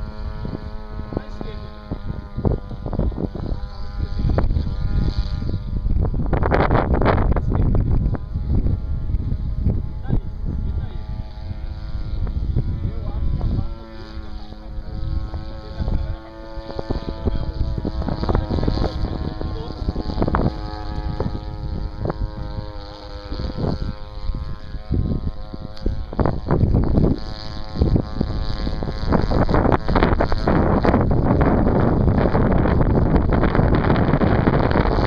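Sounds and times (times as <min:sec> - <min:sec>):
model plane engine drone: 0:00.0 - 0:35.0
wind buffeting microphone: 0:00.0 - 0:35.0.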